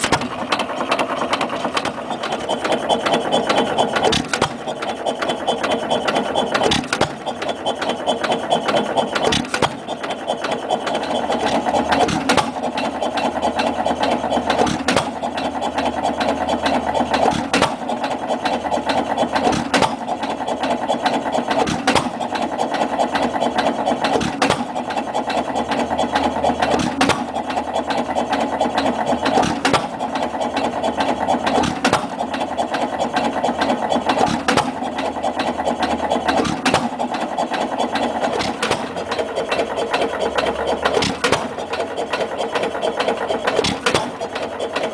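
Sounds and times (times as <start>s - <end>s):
stationary engine clatter: 0.0s - 44.9s.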